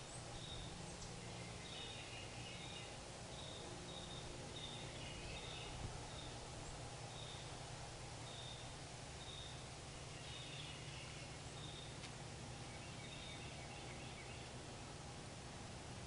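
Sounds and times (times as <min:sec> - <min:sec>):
birds calling: 0:00.0 - 0:15.2
faint low hum: 0:00.0 - 0:16.0.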